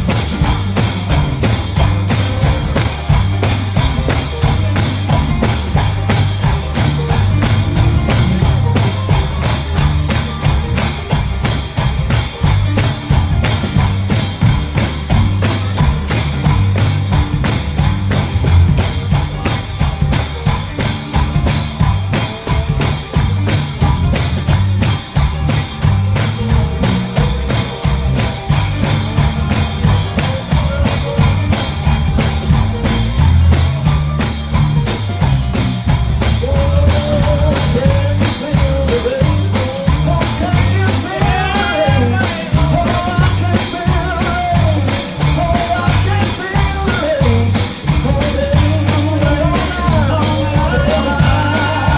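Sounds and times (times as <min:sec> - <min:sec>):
church band playing: 0:00.0 - 0:51.9
drum kit: 0:00.0 - 0:51.9
heavy bass line: 0:00.0 - 0:51.9
tambourine: 0:00.0 - 0:51.9.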